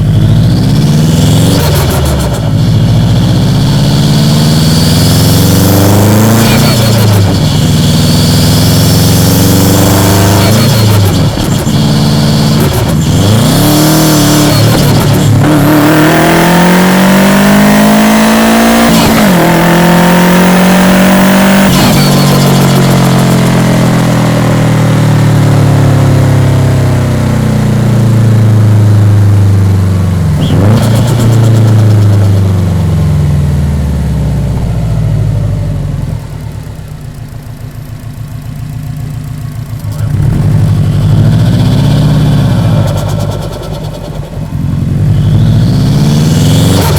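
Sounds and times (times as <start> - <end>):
turbocharged car engine revving: 0.0 - 37.2, 38.3 - 46.9.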